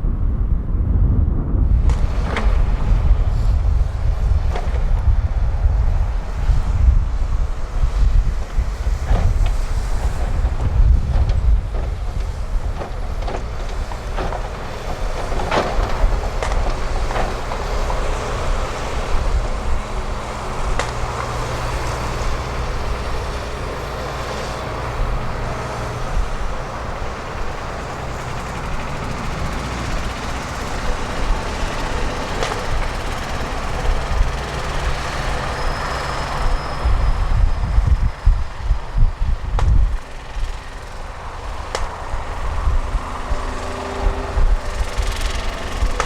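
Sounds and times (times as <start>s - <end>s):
diesel engine rumble: 0.0s - 46.0s.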